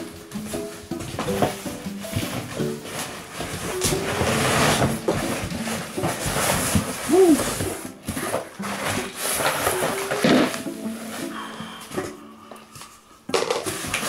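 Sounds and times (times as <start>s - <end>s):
parts knocking against cardboard: 0.0s - 11.3s, 12.8s - 14.0s
cardboard and plastic rustling: 0.0s - 14.0s.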